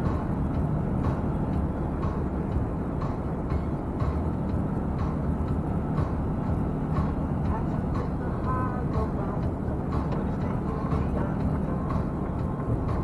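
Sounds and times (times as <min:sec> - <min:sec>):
lorry engine rumble: 0:00.0 - 0:13.0
road noise: 0:00.0 - 0:13.0.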